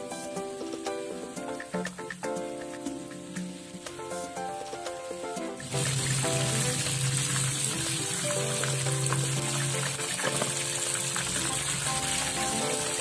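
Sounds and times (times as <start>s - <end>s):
background music: 0.0s - 13.0s
chicken sizzling in hot oil: 0.1s - 13.0s.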